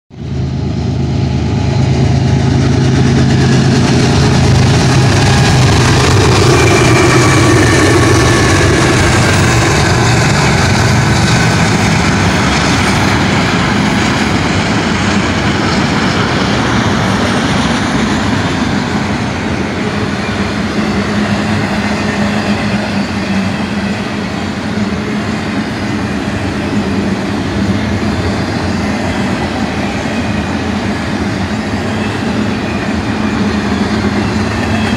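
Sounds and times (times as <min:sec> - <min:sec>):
diesel locomotives droning: 0:00.1 - 0:34.9
freight cars rumbling and clattering: 0:00.9 - 0:34.9.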